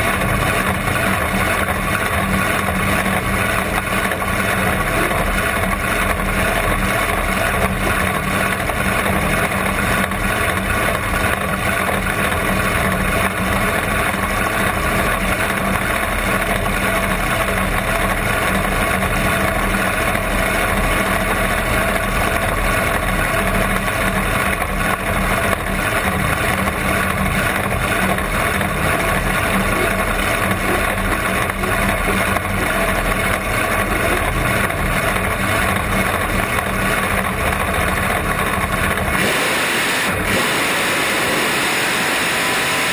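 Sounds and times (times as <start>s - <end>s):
dragster engine idling: 0.0s - 42.9s.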